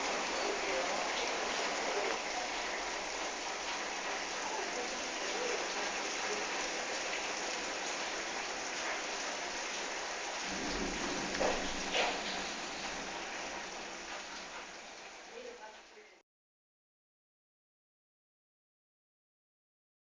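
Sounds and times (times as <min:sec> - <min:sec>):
heavy rain pattering: 0:00.0 - 0:16.2.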